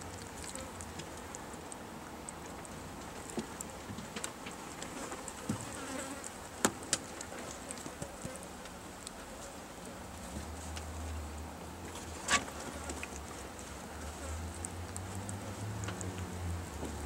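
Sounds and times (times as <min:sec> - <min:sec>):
rabbits nibbling and rustling in straw: 0:00.0 - 0:17.0.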